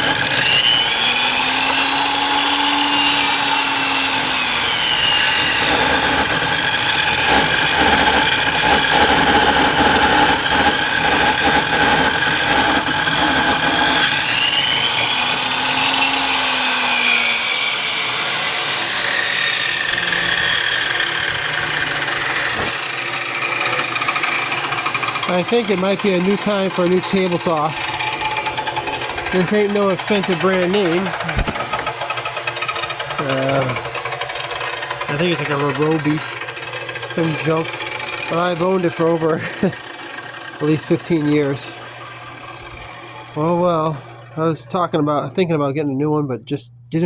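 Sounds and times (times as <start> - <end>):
table saw rattling: 0.0 - 44.4.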